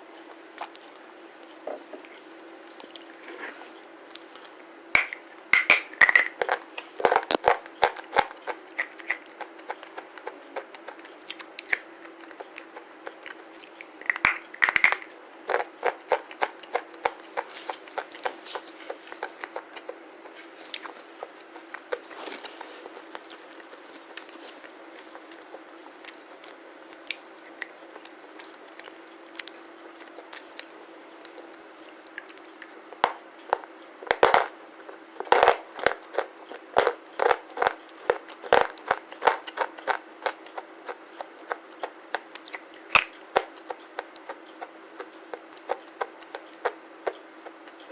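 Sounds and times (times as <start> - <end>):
faint steady hum: 0.0 - 47.9
crunchy biting and chewing: 0.2 - 32.8, 33.5 - 47.9.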